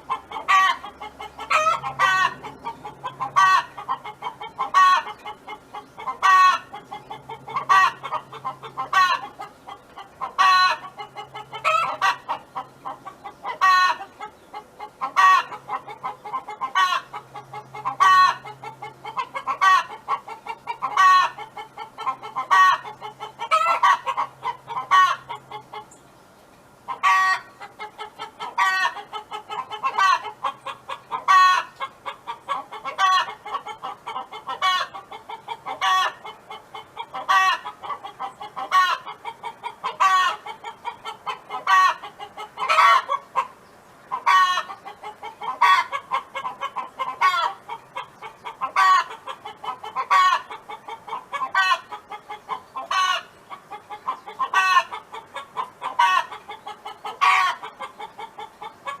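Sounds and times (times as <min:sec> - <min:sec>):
hen clucking: 0:00.0 - 0:26.0, 0:26.8 - 0:59.0.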